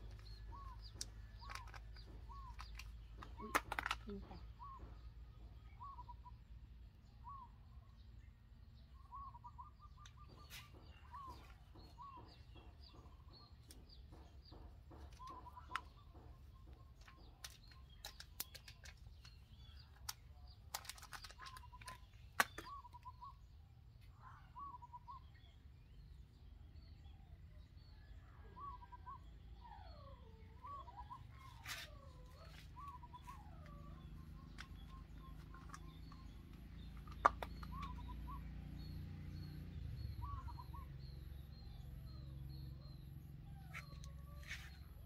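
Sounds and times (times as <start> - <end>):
bird chirping: 0.0 - 45.0.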